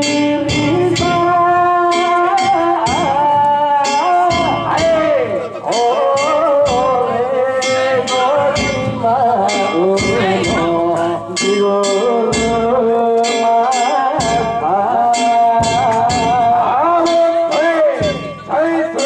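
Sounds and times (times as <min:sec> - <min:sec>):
drum beats: 0:00.0 - 0:19.0.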